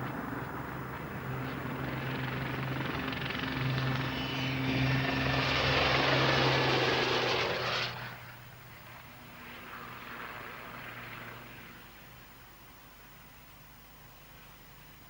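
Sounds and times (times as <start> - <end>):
helicopter rotor and turbine: 0.0 - 12.4
steady low hum: 0.0 - 15.0.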